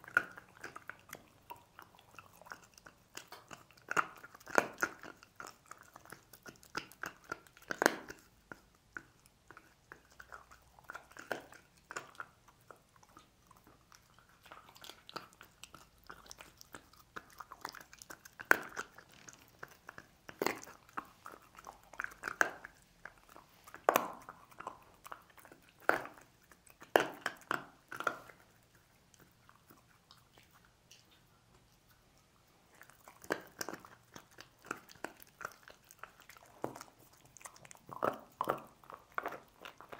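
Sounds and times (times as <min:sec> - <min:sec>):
dog gnawing bones: 0:00.0 - 0:39.9.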